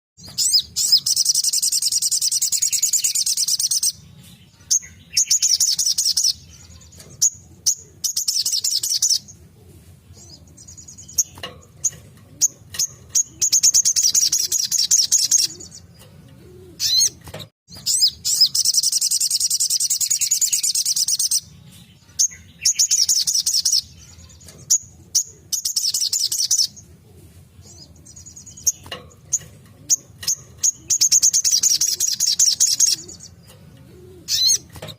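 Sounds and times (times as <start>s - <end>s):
bird singing high-pitched trills: 0.2s - 9.4s, 10.1s - 26.9s, 27.6s - 33.6s, 34.2s - 34.7s.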